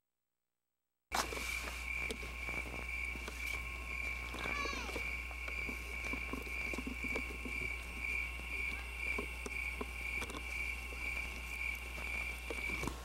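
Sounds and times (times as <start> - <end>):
low steady hum: 1.1 - 13.0
crickets trilling: 1.2 - 13.0
faint scattered ticks: 1.2 - 13.0.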